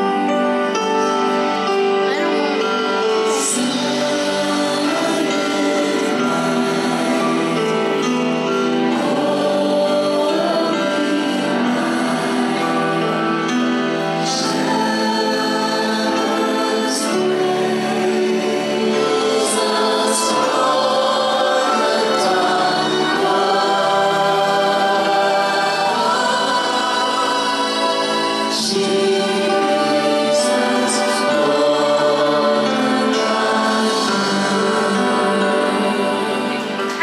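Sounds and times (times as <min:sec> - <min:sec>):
choir singing held notes: 0:00.0 - 0:37.0.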